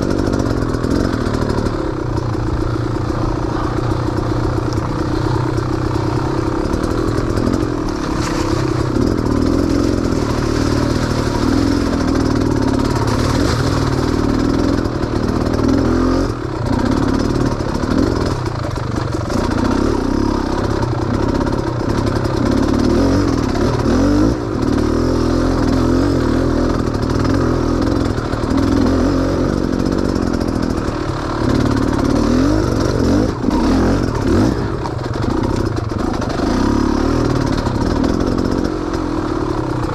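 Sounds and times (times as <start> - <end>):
off-road vehicle engine: 0.0 - 39.9
vehicle clattering over ruts: 0.0 - 39.9.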